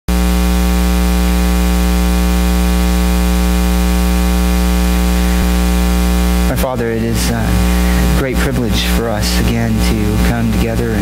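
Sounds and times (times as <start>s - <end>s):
electrical mains hum with hiss: 0.1s - 11.0s.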